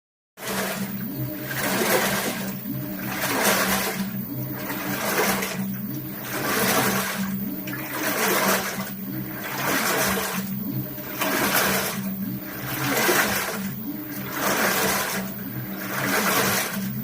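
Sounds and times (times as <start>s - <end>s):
washing machine motor hum: 0.4s - 17.0s
washing machine water sloshing: 0.4s - 17.0s.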